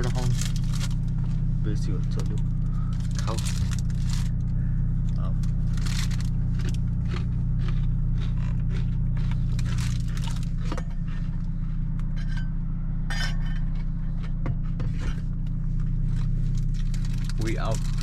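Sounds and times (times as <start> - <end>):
car cabin engine drone: 0.0 - 18.0.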